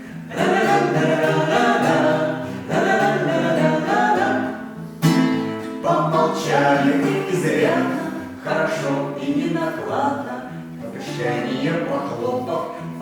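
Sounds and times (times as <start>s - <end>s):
man and woman singing: 0.0s - 4.9s, 5.5s - 13.0s.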